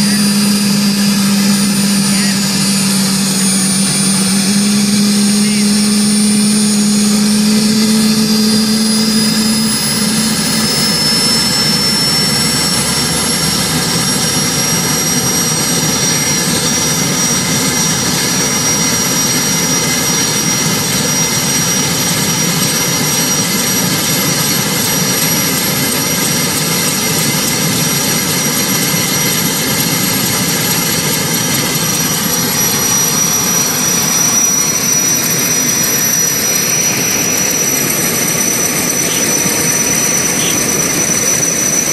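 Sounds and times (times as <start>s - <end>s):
helicopter turbine whine rising: 0.0s - 41.9s
spinning helicopter rotor: 0.0s - 41.9s.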